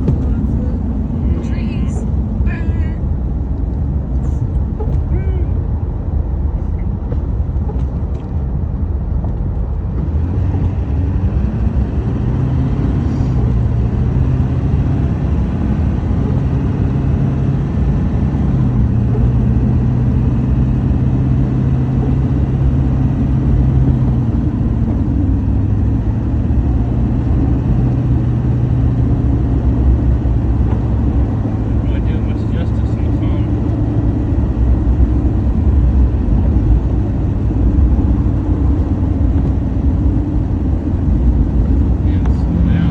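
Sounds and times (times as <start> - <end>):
motor vehicle engine running: 0.0 - 42.9.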